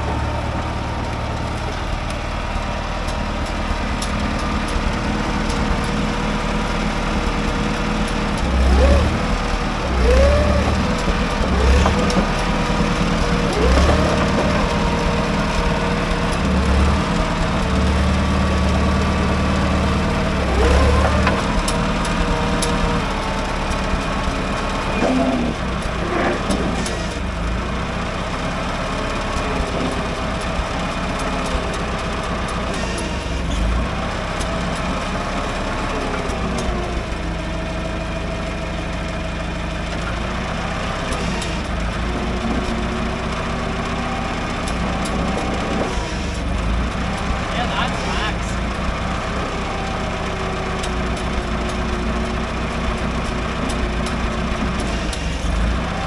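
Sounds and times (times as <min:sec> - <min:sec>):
crawler tractor engine running: 0:00.0 - 0:56.0.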